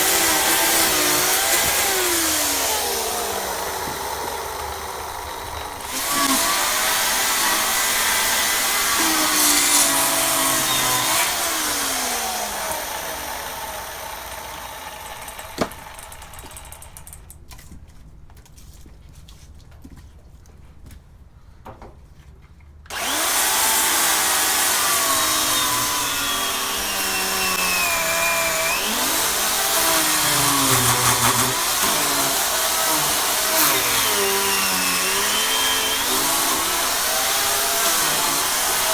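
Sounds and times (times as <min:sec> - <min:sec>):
chainsaw cutting wood: 0:00.0 - 0:17.2, 0:22.9 - 0:38.9.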